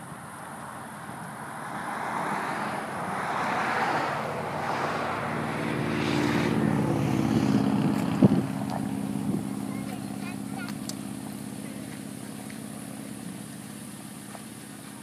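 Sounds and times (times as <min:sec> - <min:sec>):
motor engine passing: 0:01.2 - 0:15.0.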